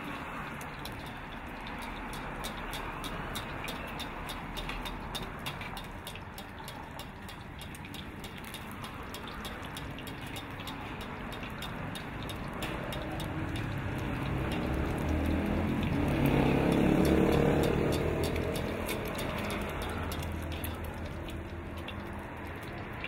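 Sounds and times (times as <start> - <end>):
egg sizzling in hot oil: 0.0 - 23.0.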